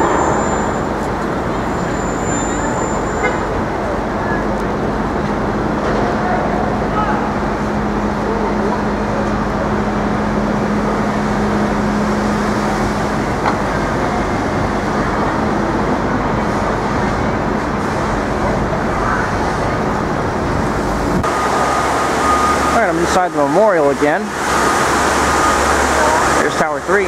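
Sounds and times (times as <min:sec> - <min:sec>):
low engine hum: 0:00.0 - 0:23.4
dense street traffic: 0:00.0 - 0:27.0.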